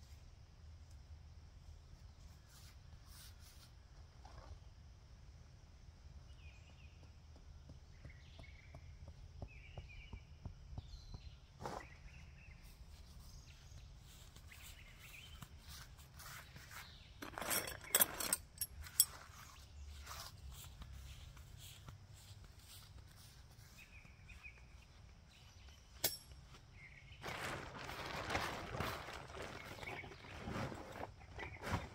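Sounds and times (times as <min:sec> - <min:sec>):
birds chirping: 0:06.3 - 0:31.9.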